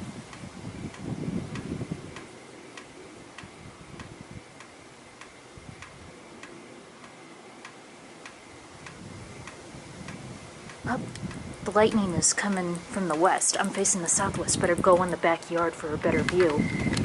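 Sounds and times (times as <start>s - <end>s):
faint continuous hiss: 0.0s - 17.0s
regular ticking: 0.0s - 17.0s.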